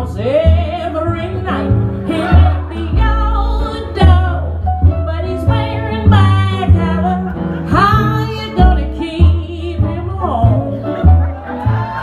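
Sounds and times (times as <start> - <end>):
woman singing blues: 0.0 - 10.9
hollow-body guitar: 0.0 - 12.0
plucked upright bass: 0.0 - 12.0.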